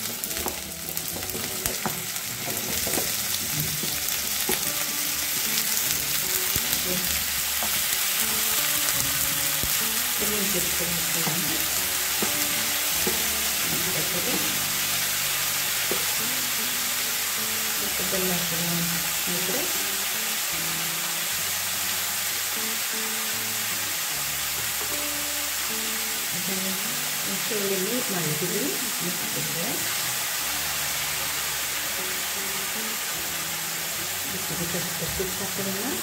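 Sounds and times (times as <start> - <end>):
frying sizzle in oil: 0.0 - 36.0.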